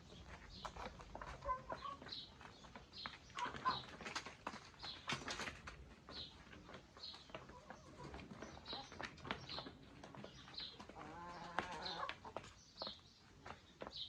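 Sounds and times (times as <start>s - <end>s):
chickens clucking: 0.1s - 13.6s.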